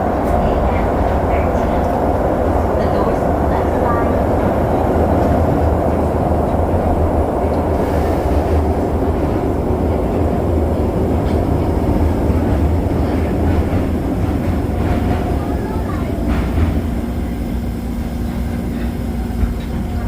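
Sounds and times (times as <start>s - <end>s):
train rumble from inside: 0.0s - 20.0s.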